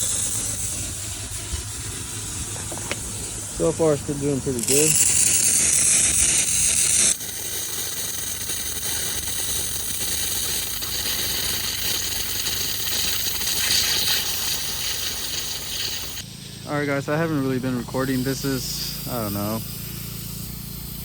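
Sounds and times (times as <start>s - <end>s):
air compressor running: 0.0s - 21.0s
generator running: 0.0s - 21.0s
hiss of air: 0.0s - 21.0s.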